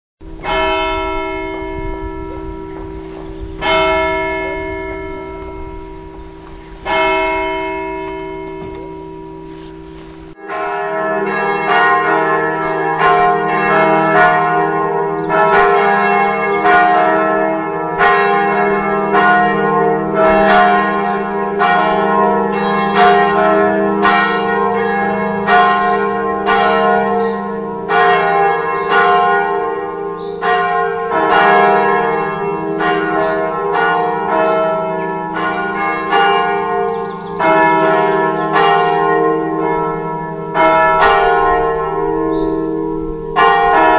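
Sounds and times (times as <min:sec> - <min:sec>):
church bells ringing: 0:00.2 - 0:43.9.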